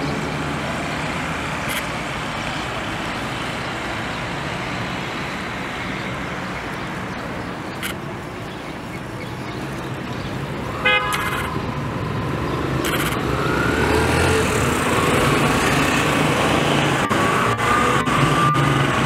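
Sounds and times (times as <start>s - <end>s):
passing vehicle engines hum: 0.0s - 19.0s.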